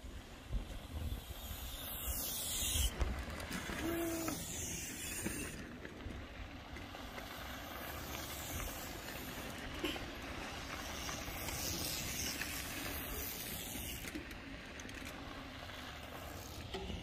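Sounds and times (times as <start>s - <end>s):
bike tyres rolling over dirt: 0.0s - 17.0s.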